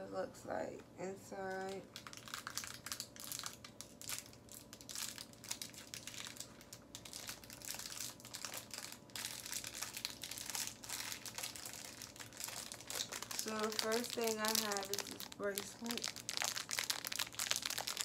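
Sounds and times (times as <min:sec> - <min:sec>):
plastic packaging crinkling: 0:01.4 - 0:18.0.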